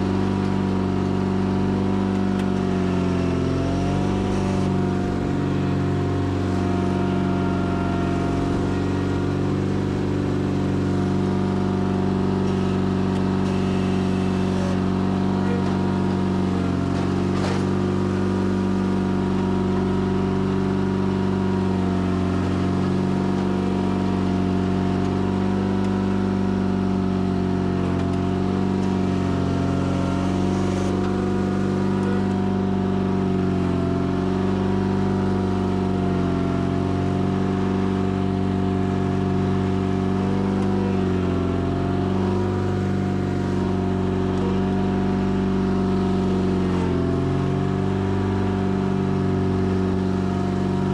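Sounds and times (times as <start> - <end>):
garden tractor engine under load: 0.0 - 50.9.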